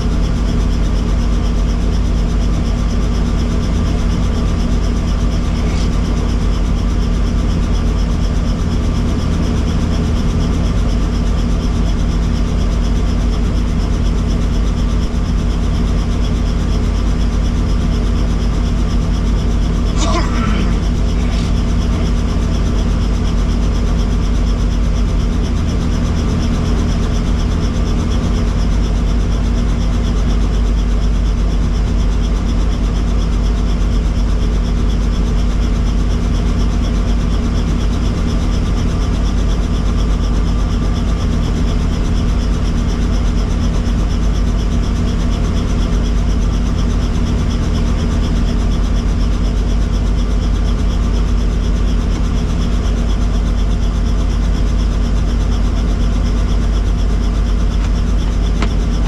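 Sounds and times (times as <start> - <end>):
helicopter running: 0.0 - 59.0.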